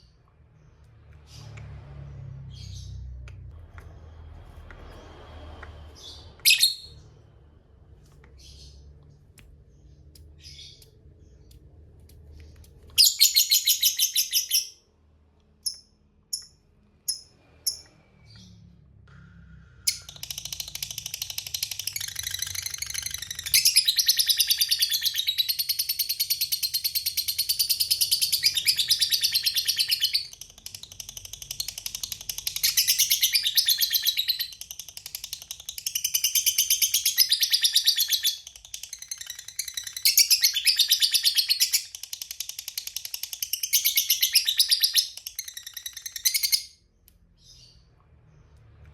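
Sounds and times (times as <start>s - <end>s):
bird chirps: 5.9s - 7.2s, 8.1s - 48.9s.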